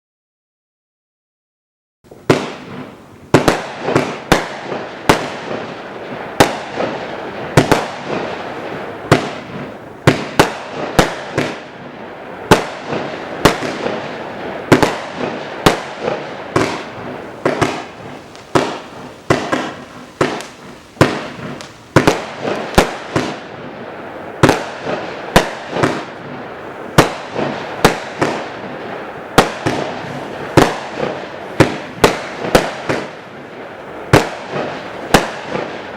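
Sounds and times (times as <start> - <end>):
firework battery bangs: 2.1 - 35.9
firework crackling: 2.1 - 35.9.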